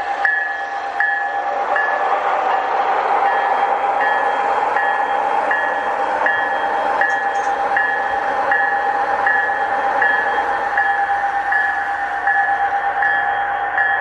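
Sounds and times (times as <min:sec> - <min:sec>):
locomotive bell striking: 0:00.2 - 0:02.0, 0:03.3 - 0:14.0.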